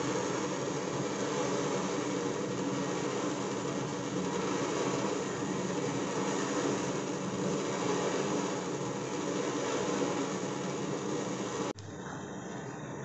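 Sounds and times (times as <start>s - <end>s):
burner stove hissing: 0.0s - 13.0s.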